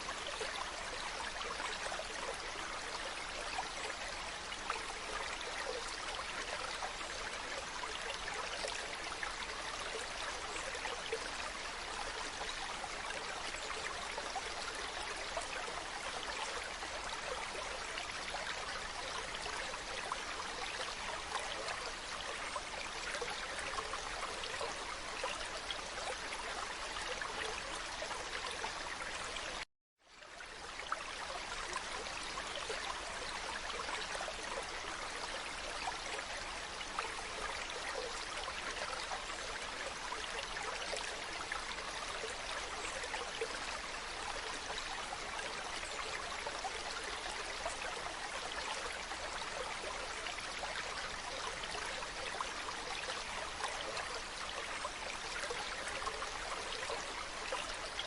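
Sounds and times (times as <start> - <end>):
mountain stream flowing: 0.0 - 58.0.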